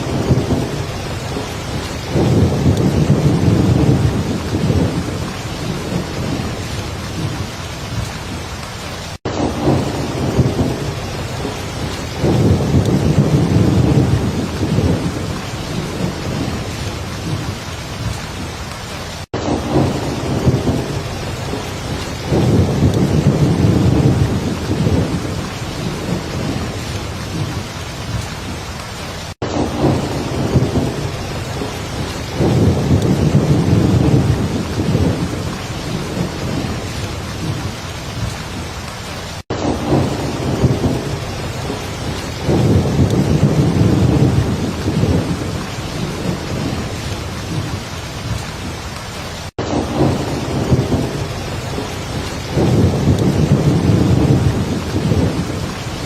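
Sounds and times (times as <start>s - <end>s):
heavy rain: 0.0s - 56.0s
thunder rumbles: 0.0s - 56.0s.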